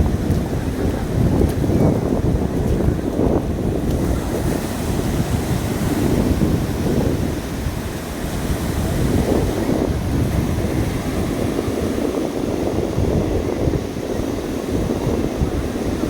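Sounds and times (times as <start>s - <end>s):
sea surf washing onto beach: 0.0s - 16.0s
wind rumble on microphone: 0.0s - 16.0s.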